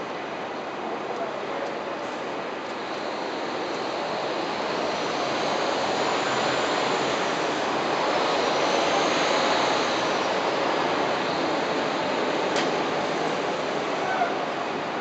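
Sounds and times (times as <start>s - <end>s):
busy city street noise: 0.0s - 15.0s
faint high whine: 0.0s - 15.0s.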